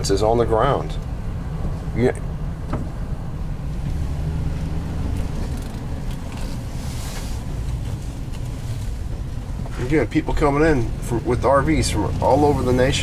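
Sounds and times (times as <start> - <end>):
car engine and tyres humming: 0.0 - 13.0.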